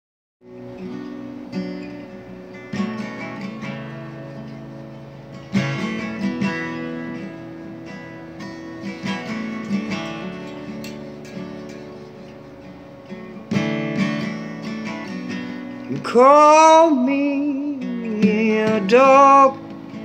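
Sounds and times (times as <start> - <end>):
acoustic guitar chords: 0.4 - 20.0.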